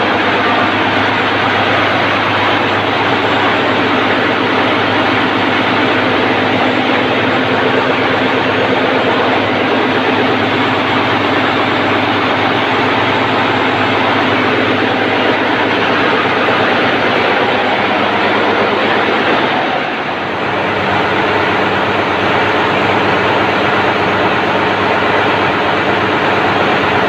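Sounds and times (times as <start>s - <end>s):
diesel engine running steadily: 0.0s - 27.0s.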